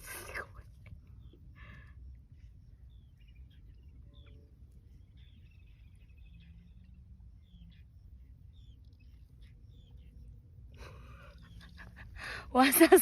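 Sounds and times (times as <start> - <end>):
faint bird chirps: 0.0 - 13.0
low steady rumble: 0.0 - 13.0.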